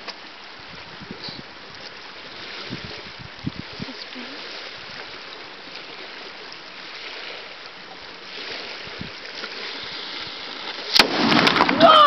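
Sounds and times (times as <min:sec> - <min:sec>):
waves lapping on pebble shore: 0:01.6 - 0:12.0.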